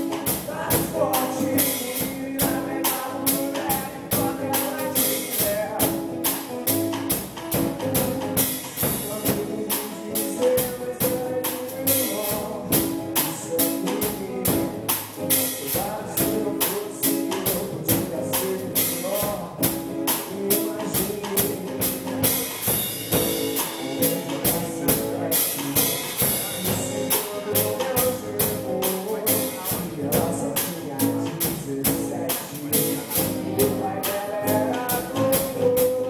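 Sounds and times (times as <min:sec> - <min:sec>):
band music: 0:00.0 - 0:36.0
quick percussion beat: 0:00.0 - 0:36.0
sung melody: 0:00.0 - 0:36.0.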